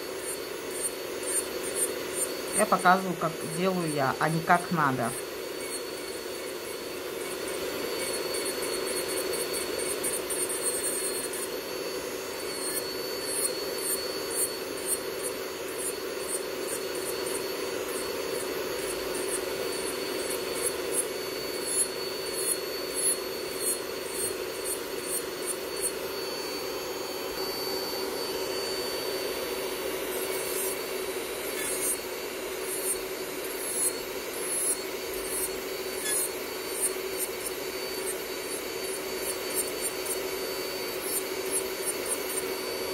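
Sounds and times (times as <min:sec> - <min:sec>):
drill bit rasping on nail: 0:00.0 - 0:42.9
extractor fan hum: 0:00.0 - 0:42.9
nail drill whining: 0:00.0 - 0:42.9.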